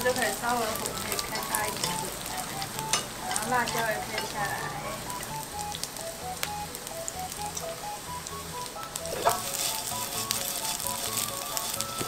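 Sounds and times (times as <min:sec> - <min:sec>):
light background music: 0:00.0 - 0:12.0
vegetables sizzling in oil: 0:00.0 - 0:12.0.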